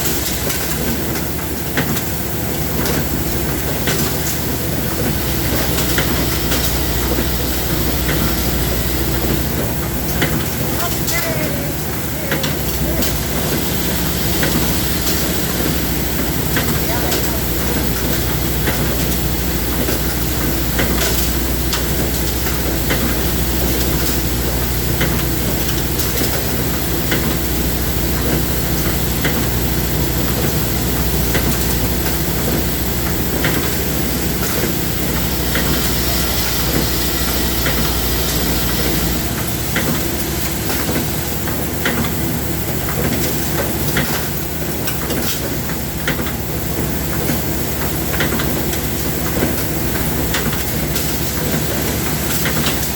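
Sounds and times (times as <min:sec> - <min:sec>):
machine low hum: 0:00.0 - 0:52.9
workshop machine hissing: 0:00.0 - 0:52.9.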